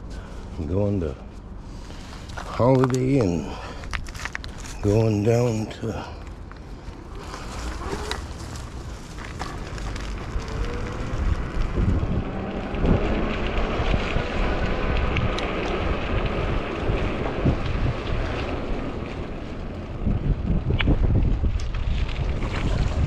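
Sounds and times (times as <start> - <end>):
wind buffeting microphone: 0.7 - 23.0.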